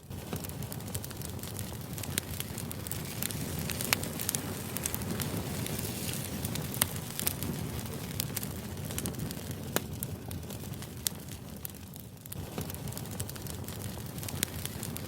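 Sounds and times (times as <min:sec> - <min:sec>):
sharp crackles and clicks: 0:00.0 - 0:15.0.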